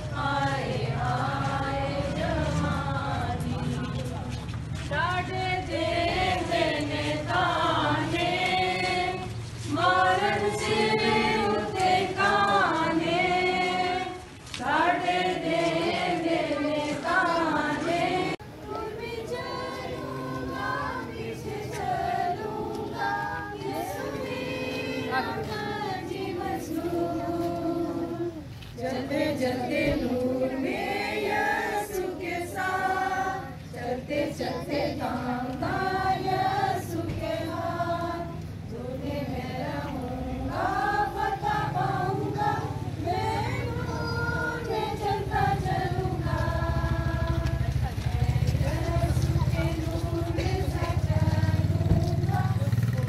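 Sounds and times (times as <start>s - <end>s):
women and children singing a hymn: 0.0s - 53.0s.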